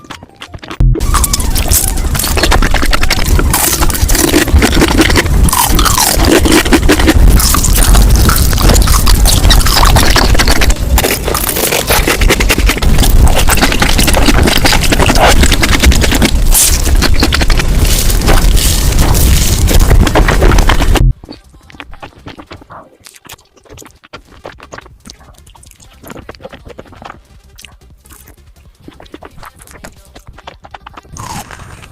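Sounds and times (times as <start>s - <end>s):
crunchy food being chewed: 0.0s - 31.9s.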